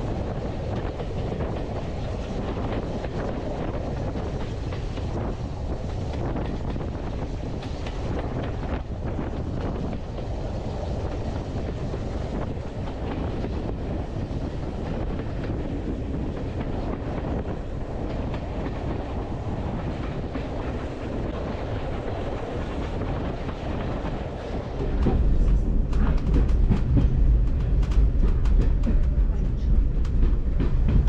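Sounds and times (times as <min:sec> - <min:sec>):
train coaches rumbling on track: 0:00.0 - 0:31.0.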